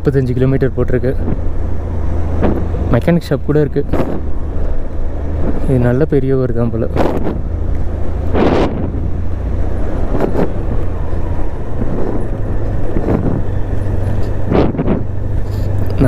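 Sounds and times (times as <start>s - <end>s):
motorcycle engine humming: 0.0s - 16.0s
rushing ride noise: 0.0s - 16.0s.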